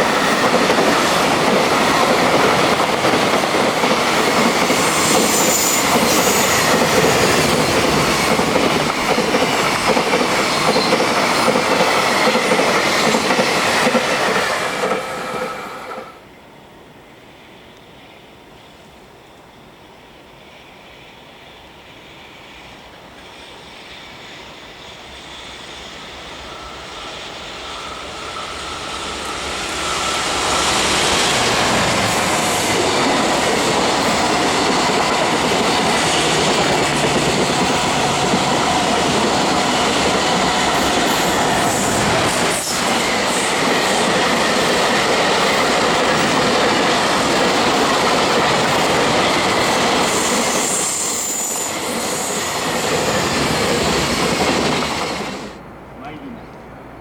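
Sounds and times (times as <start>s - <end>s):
freight train rushing past: 0.0s - 57.0s.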